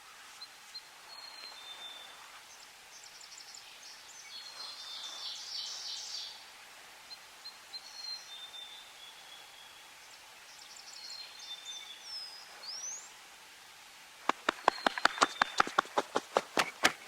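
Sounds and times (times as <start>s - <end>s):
faint steady hiss: 0.0s - 17.0s
songbirds singing: 0.4s - 13.3s, 14.2s - 17.0s.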